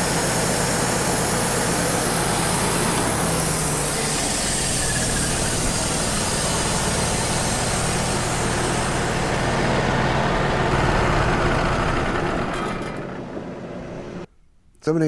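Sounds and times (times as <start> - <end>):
sawmill sawing through log: 0.0 - 13.8.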